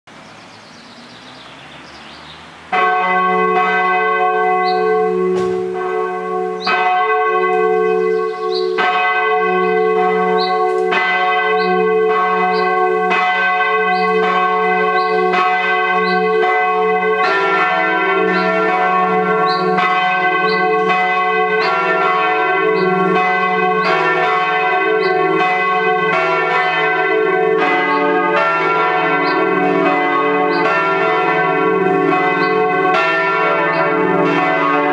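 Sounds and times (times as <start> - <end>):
church bells ringing: 0.6 - 34.9.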